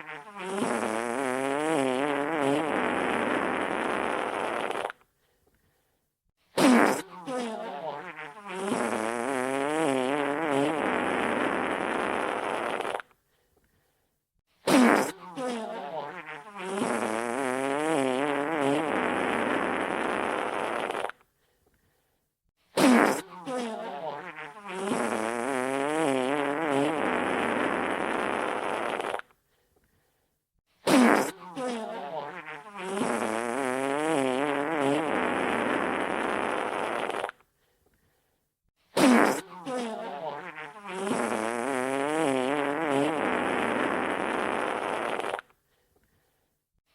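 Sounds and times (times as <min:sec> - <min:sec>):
wet fart sound effect: 0:00.0 - 0:05.0, 0:06.5 - 0:13.2, 0:14.6 - 0:21.2, 0:22.7 - 0:29.4, 0:30.8 - 0:37.4, 0:38.9 - 0:45.6.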